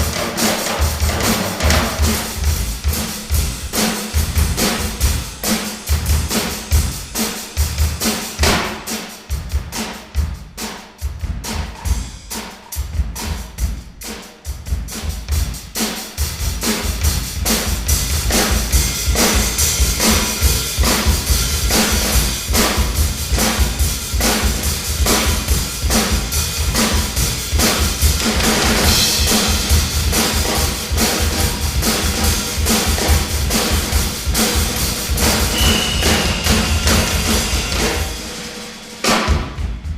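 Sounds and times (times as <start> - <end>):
drum kit played fast: 0.0 - 39.9.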